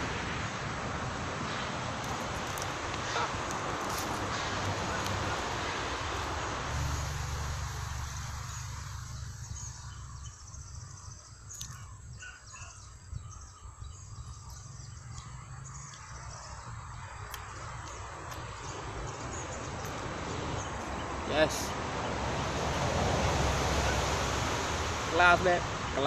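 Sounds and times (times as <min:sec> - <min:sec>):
insect noise: 0:00.0 - 0:26.0
wind rumble on microphone: 0:00.0 - 0:26.0
birds chirping: 0:01.1 - 0:26.0.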